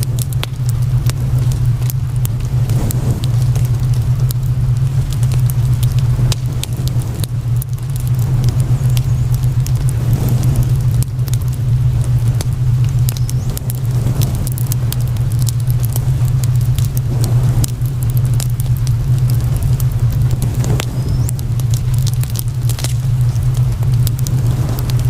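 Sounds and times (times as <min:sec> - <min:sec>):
fire crackling and popping: 0:00.0 - 0:25.0
low hum: 0:00.0 - 0:25.0.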